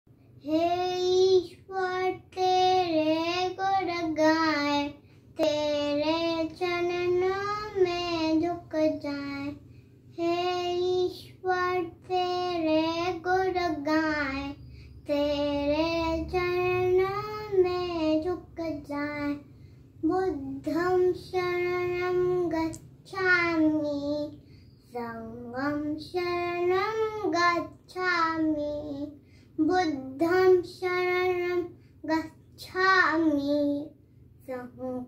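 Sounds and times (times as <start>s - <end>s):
boy singing a prayer: 0.4s - 35.0s.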